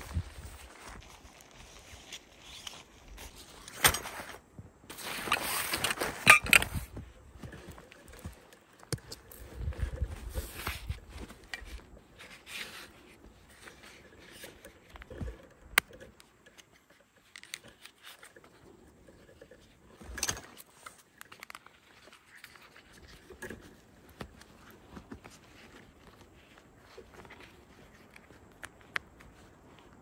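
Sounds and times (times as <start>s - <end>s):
rustling and scraping handling noises: 0.0s - 30.0s.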